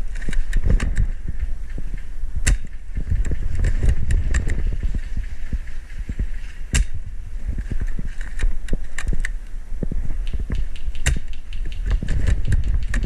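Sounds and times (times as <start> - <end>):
sharp cracks: 0.0 - 13.0
low thumps and knocks on microphone: 0.6 - 9.2, 9.8 - 13.0.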